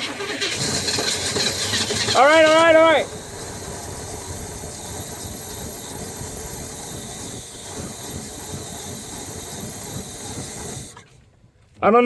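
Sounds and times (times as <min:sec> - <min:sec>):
engine running with low pulsing: 0:00.0 - 0:11.0
engine hiss: 0:00.0 - 0:11.3.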